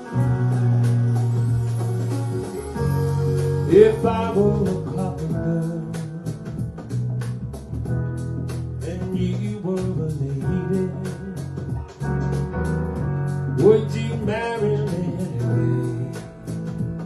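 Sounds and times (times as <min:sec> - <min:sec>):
instrumental pop band music: 0:00.0 - 0:17.0.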